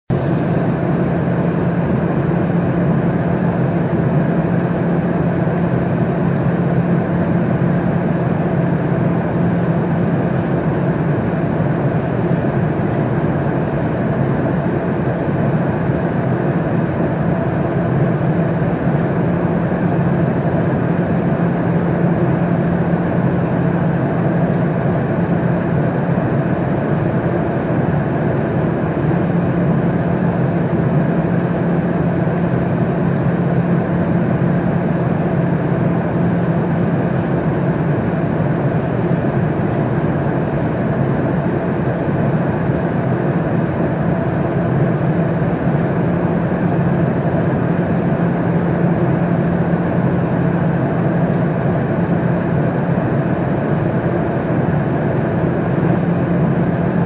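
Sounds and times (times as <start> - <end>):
airliner cabin hum: 0.1 - 57.0.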